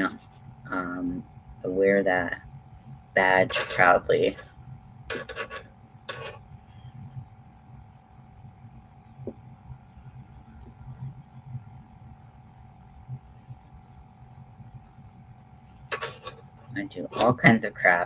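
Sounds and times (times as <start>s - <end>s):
faint hum: 0.0s - 18.0s.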